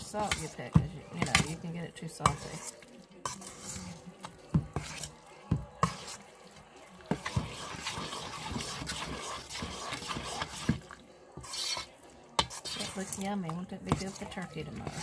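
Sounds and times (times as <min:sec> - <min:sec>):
spoon stirring wet stuffing: 0:00.0 - 0:15.0.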